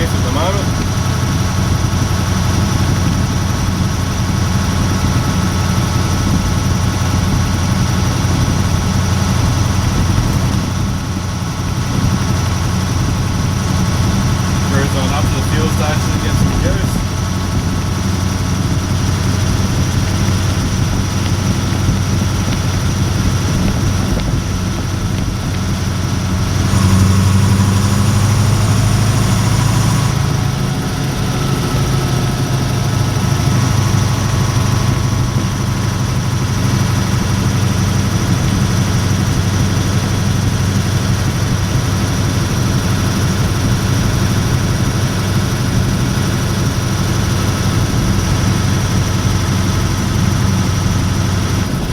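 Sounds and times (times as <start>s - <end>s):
truck diesel engine drone: 0.0s - 51.9s.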